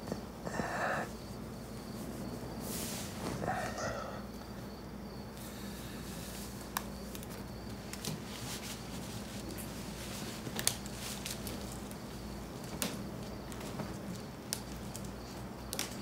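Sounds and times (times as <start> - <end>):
steady low hum: 0.0 - 16.0
soft rustle: 1.1 - 4.1, 5.4 - 15.4.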